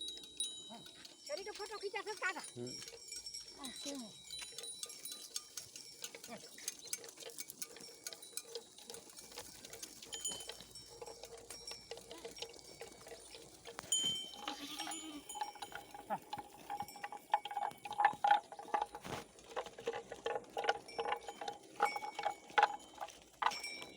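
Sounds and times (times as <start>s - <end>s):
goat bells clanking: 0.0s - 23.9s.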